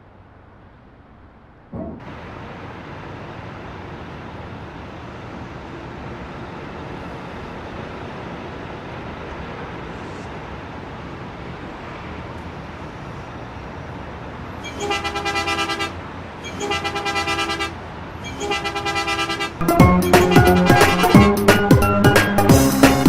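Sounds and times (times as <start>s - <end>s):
bus running with road noise: 0.0s - 23.0s.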